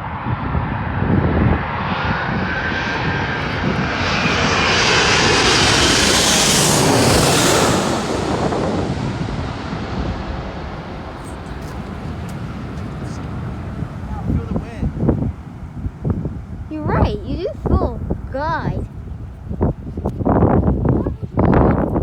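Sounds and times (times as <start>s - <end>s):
jet airliner passing overhead: 0.0s - 22.0s.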